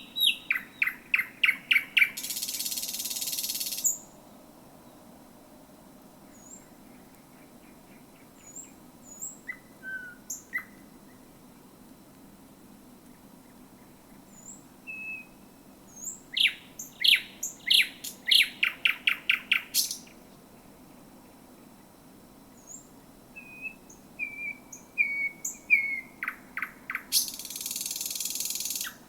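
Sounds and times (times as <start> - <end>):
nightingale singing: 0.0 - 4.3, 6.3 - 11.3, 13.1 - 21.5, 22.5 - 29.0.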